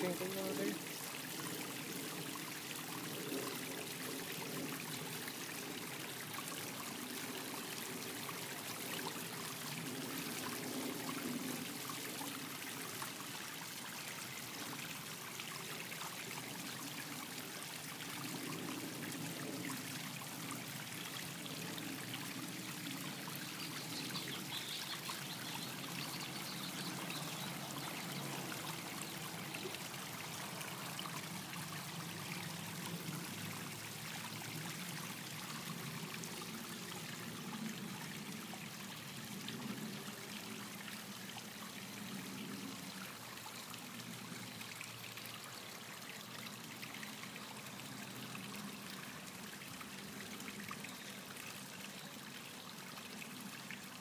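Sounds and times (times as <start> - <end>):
water trickling over stones: 0.0 - 54.0.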